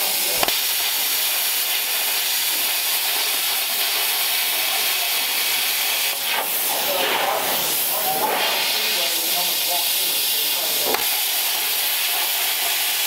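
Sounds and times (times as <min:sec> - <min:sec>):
plasma cutter hissing: 0:00.0 - 0:13.0.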